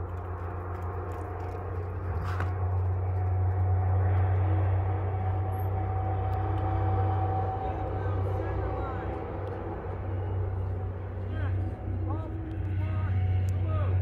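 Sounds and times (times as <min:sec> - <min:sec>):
faint high whine: 0:00.0 - 0:14.0
low motor hum: 0:00.0 - 0:14.0.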